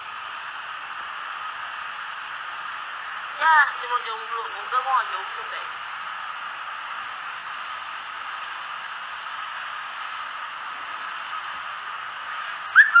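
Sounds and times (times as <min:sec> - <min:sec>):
steady static hiss: 0:00.0 - 0:13.0.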